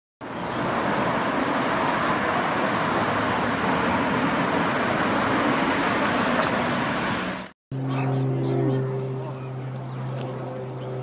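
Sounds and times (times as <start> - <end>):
vehicle running noise: 0.2 - 11.0.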